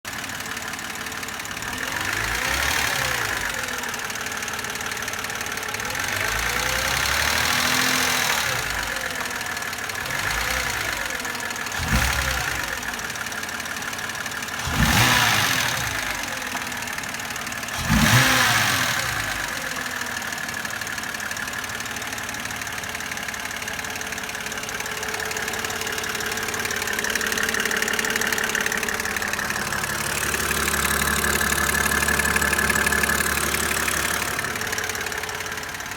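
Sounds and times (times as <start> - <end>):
car engine revving and idling: 0.1 - 35.9.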